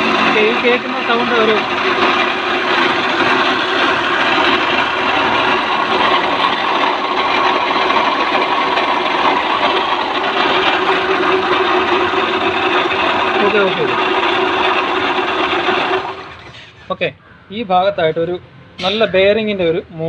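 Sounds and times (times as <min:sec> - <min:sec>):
car engine running: 0:00.0 - 0:16.6
bearing hum and grinding: 0:00.0 - 0:17.0.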